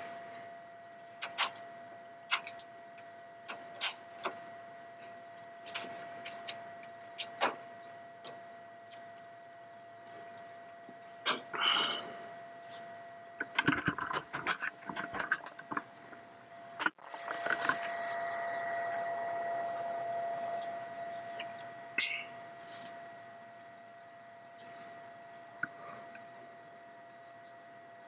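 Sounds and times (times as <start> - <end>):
computer high whine: 0.0 - 28.0.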